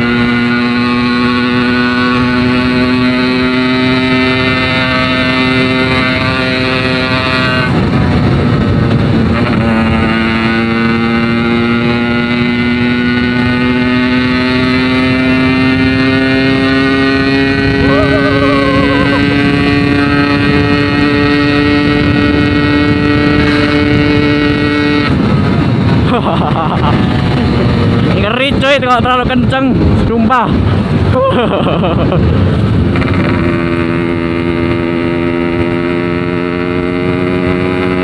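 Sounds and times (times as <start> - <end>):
two-stroke motorcycle engine: 0.0 - 31.1, 31.8 - 38.0.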